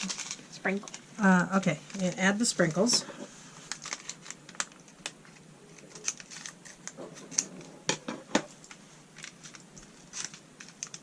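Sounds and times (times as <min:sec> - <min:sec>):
plastic packets clicking and tapping: 0:00.0 - 0:03.0, 0:03.7 - 0:11.0.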